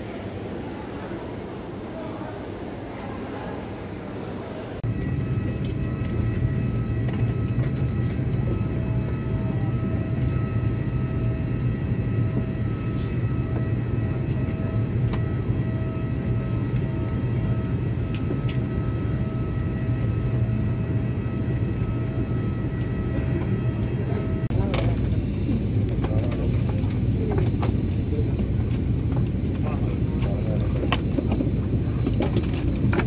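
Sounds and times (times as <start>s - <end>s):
steady high whine: 0.0s - 33.0s.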